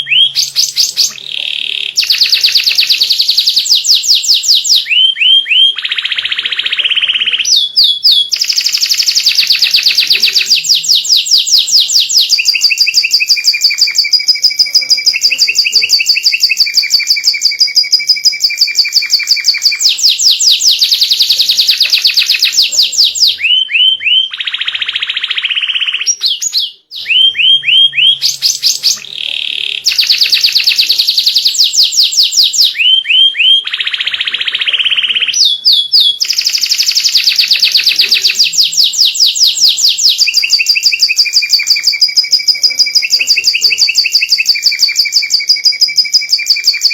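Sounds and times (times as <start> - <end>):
canary singing rapid trills: 0.0 - 46.9.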